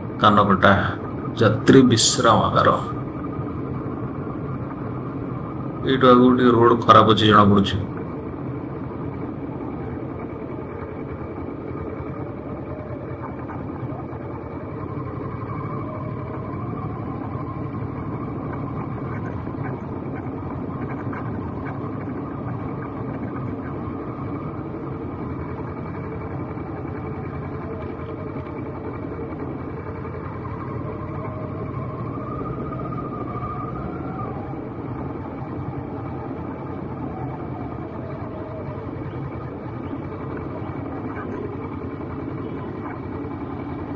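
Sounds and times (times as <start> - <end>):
motorcycle engine running: 7.9 - 43.9.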